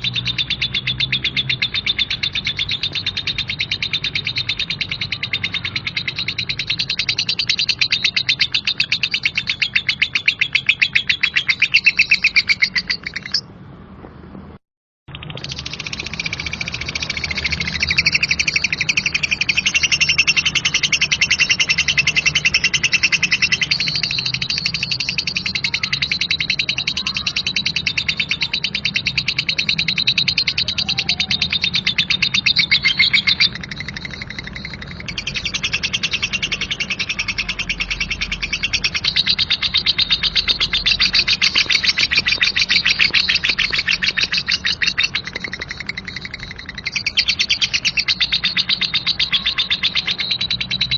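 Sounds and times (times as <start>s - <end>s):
lovebird harsh chatter: 0.0s - 13.5s, 15.1s - 50.9s.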